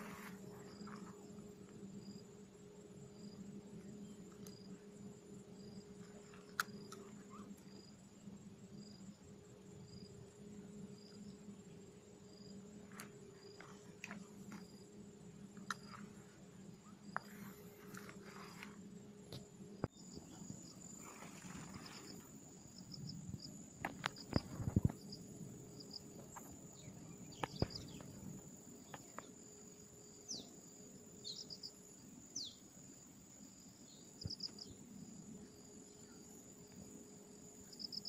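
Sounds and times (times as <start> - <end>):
insects droning and chirping: 0.0 - 38.0.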